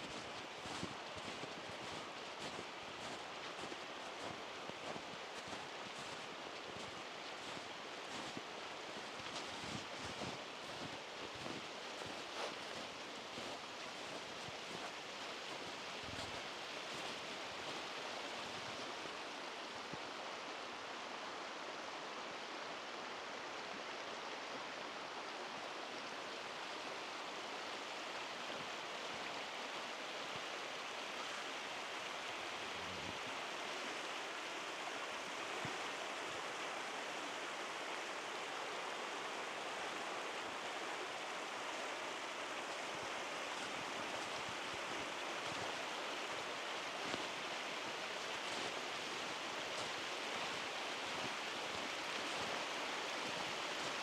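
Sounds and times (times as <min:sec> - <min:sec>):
stream running water: 0:00.0 - 0:54.0.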